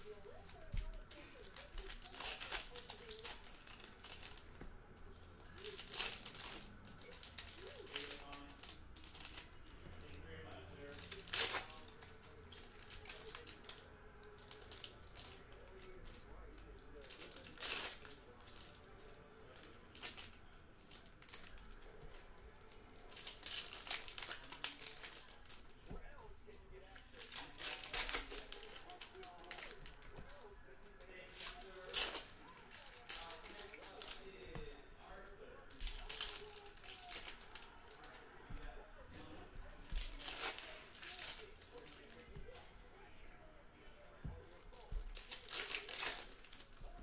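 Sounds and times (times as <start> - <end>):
foil wrapper crinkling and tearing: 0.0 - 4.6, 5.5 - 10.2, 10.8 - 16.0, 16.6 - 21.8, 23.0 - 26.0, 26.9 - 30.5, 31.1 - 34.6, 35.7 - 38.4, 39.2 - 42.6, 44.4 - 46.9.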